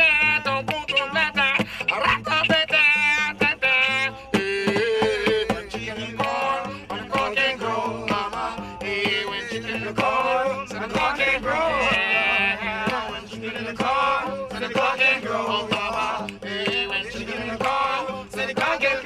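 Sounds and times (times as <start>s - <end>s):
steady percussive beat: 0.0s - 19.0s
strummed one-string guitar: 0.0s - 19.0s.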